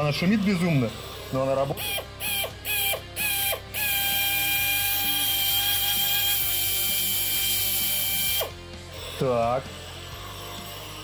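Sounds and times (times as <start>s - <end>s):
pneumatic shears whining: 0.0s - 11.0s.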